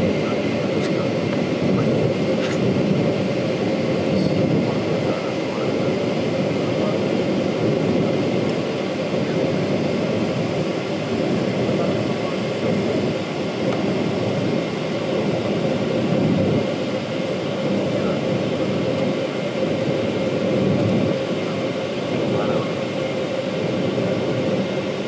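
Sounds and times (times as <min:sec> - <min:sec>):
faint steady whine: 0:00.0 - 0:25.0
jet cabin engine rush: 0:00.0 - 0:25.0.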